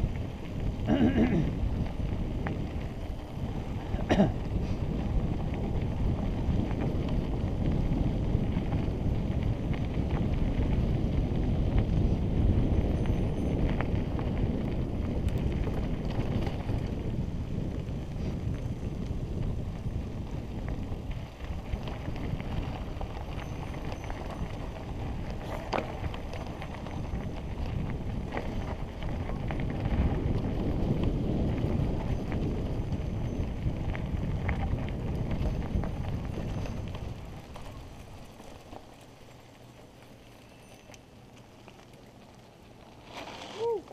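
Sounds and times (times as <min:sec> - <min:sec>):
bike clicks and rattles: 0:00.0 - 0:43.9
wind rumbling on microphone: 0:00.0 - 0:43.9.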